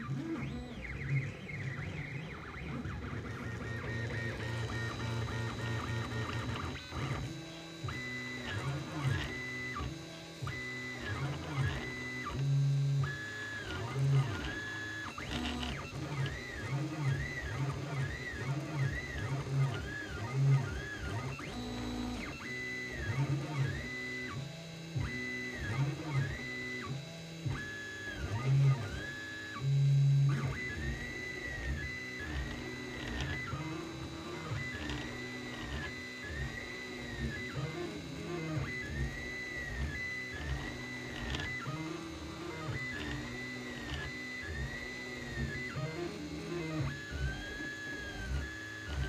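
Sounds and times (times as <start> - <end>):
stepper motors whining: 0.0 - 23.4, 30.4 - 49.0.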